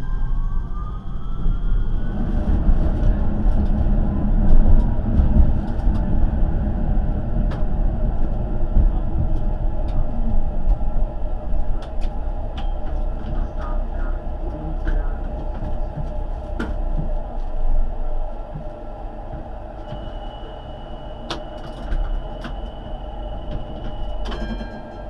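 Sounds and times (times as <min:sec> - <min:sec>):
tram rumbling on track: 0:00.0 - 0:25.0.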